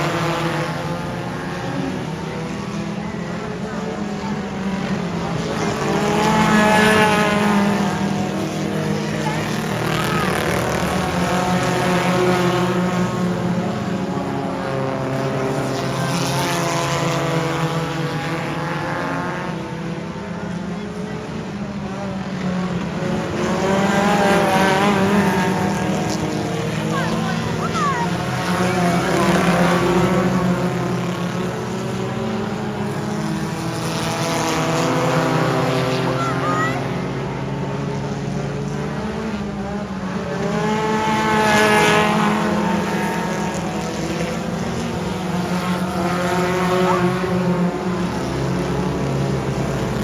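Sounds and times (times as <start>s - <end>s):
race car engines: 0.0s - 50.0s.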